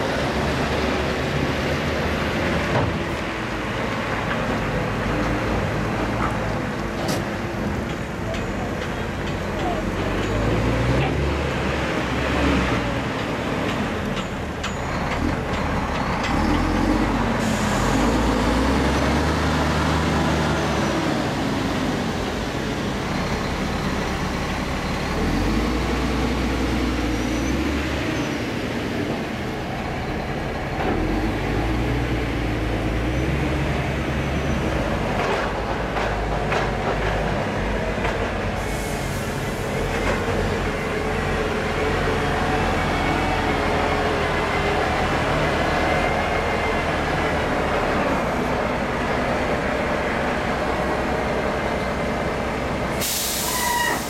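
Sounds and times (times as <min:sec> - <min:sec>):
diesel engines of cranes driving: 0:00.0 - 0:54.0.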